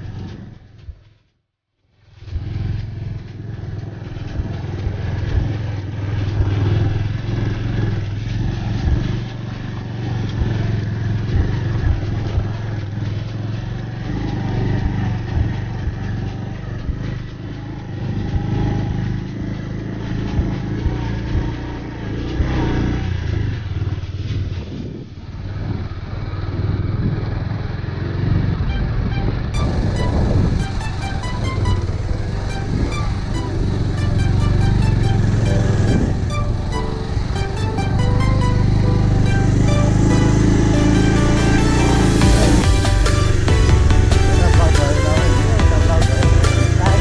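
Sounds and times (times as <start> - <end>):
motorcycle engine running: 0.0 - 1.2, 2.0 - 47.0
road and wind noise: 0.0 - 1.2, 1.9 - 47.0.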